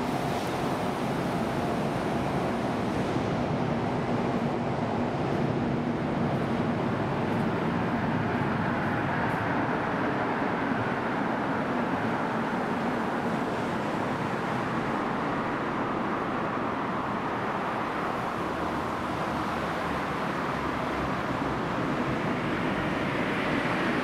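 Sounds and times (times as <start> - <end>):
road traffic echoing in underpass: 0.0 - 24.0.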